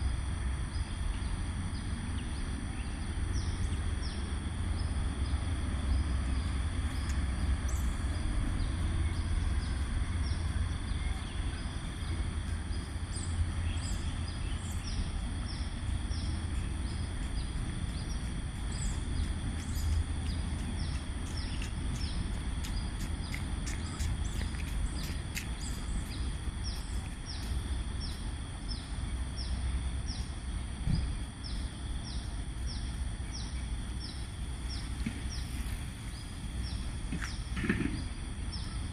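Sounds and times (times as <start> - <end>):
high-pitched hum: 0.0 - 38.9
low steady rumble: 0.0 - 38.9.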